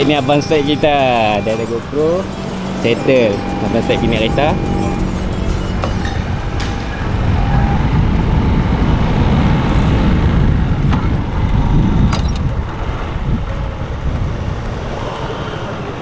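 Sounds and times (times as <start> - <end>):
motor scooter running: 0.0 - 16.0
wind buffeting microphone: 2.6 - 16.0.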